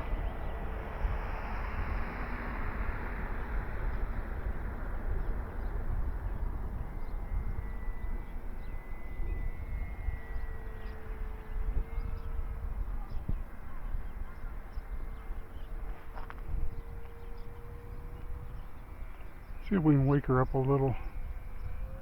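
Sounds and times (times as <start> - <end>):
model plane motor whine: 0.0 - 22.0
wind buffeting microphone: 0.0 - 22.0.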